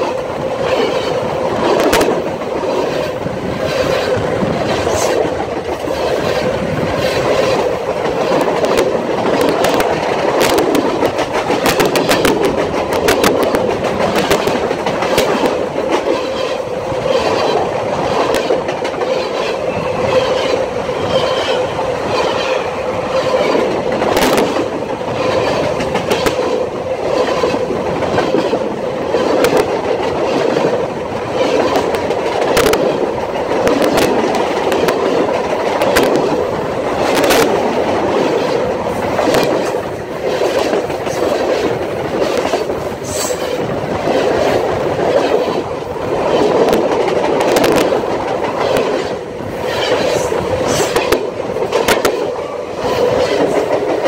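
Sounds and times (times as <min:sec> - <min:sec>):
clacks at rail joints: 0:00.0 - 0:54.0
steel wheels rumbling on rails: 0:00.0 - 0:54.0.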